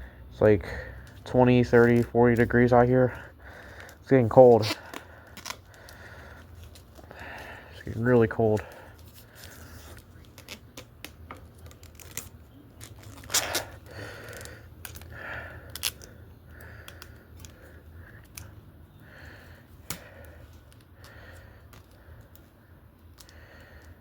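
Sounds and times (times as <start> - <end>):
steady low hum: 0.0 - 24.0
handling clicks and rustles: 1.0 - 24.0.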